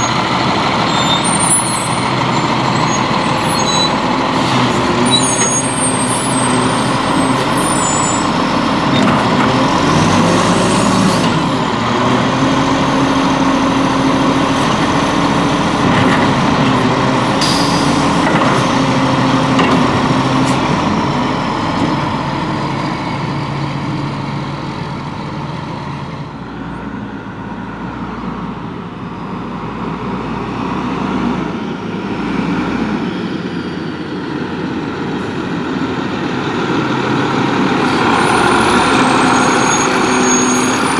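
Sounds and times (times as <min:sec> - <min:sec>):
garbage truck diesel engine: 0:00.0 - 0:40.9.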